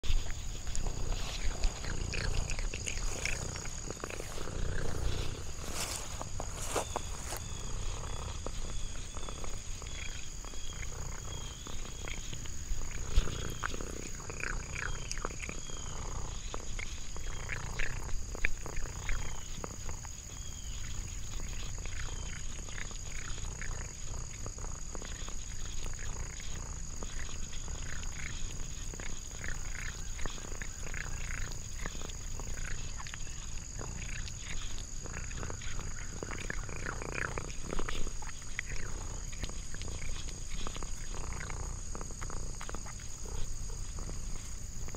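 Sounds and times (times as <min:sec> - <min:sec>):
cat chewing and licking: 0:00.0 - 0:44.9
high insect drone: 0:00.0 - 0:44.9.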